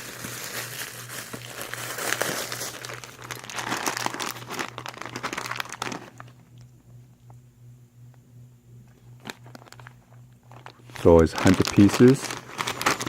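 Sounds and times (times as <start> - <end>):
packaging crinkling and tearing: 0.0 - 6.7, 9.2 - 13.0.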